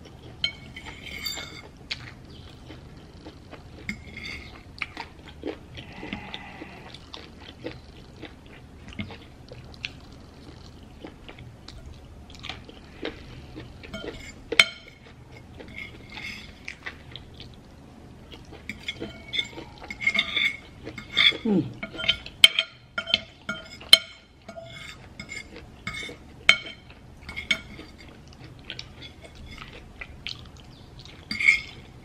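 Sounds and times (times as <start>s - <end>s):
chewing and mouth sounds: 0.0s - 22.4s, 25.4s - 32.0s.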